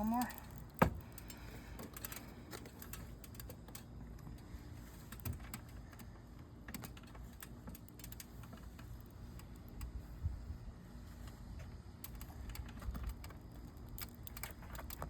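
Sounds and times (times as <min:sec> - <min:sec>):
shingles clicking when handled: 0:00.0 - 0:10.0, 0:11.6 - 0:15.0.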